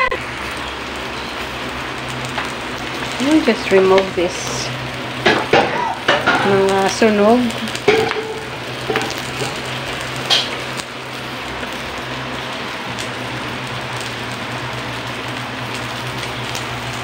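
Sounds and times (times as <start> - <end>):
fish sizzling on grill plate: 0.0 - 17.0.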